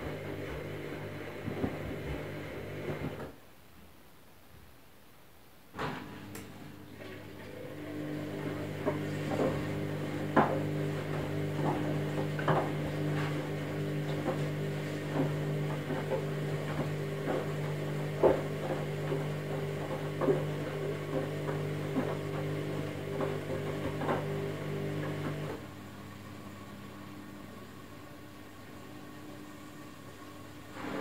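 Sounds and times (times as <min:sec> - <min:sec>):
washing machine drum motor humming: 0:00.0 - 0:03.3, 0:06.2 - 0:28.8.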